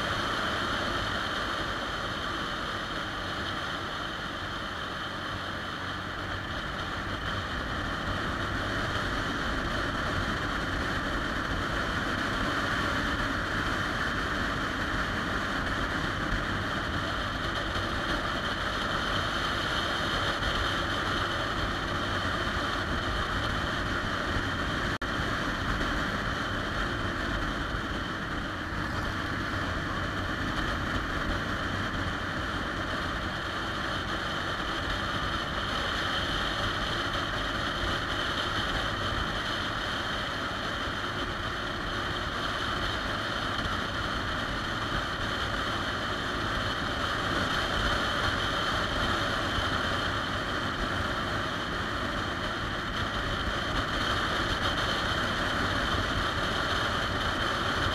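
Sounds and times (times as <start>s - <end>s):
motorcycle engine running: 0.0s - 57.9s
road noise: 0.0s - 57.9s.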